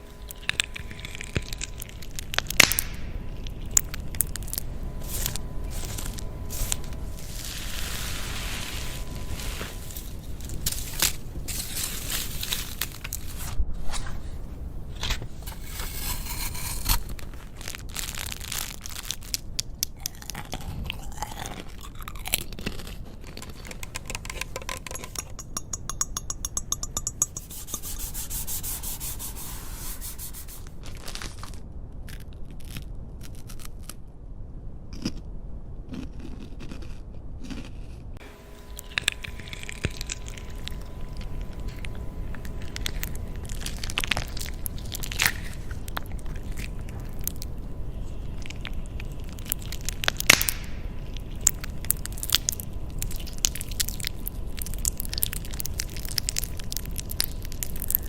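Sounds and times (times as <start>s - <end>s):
rubbing scraping and crunching: 0.0s - 33.8s, 36.7s - 58.0s.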